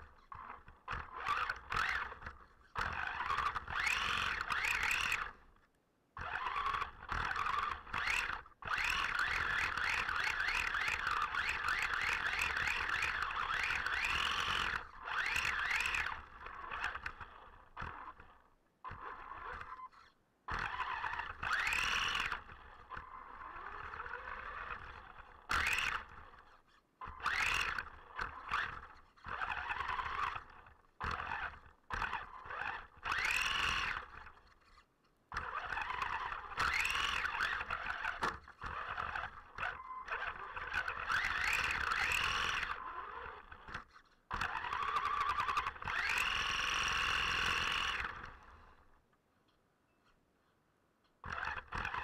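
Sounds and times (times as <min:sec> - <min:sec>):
rc car motor whining: 0:00.0 - 0:05.5, 0:06.2 - 0:49.0, 0:51.2 - 0:52.0.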